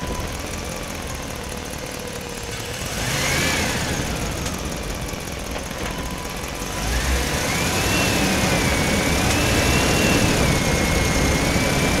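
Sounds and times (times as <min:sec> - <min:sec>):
model truck motor whine: 0:00.0 - 0:12.0.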